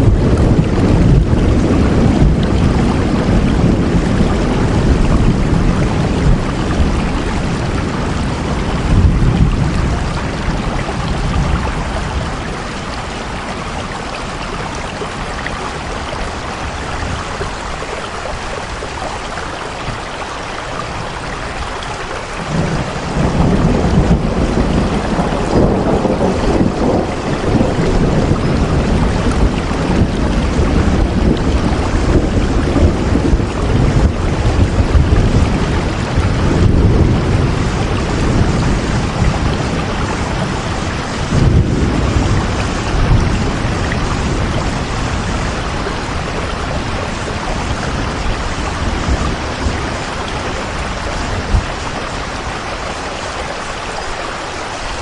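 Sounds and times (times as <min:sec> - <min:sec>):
rolling thunder: 0:00.0 - 0:53.4
heavy rain: 0:00.0 - 0:55.0.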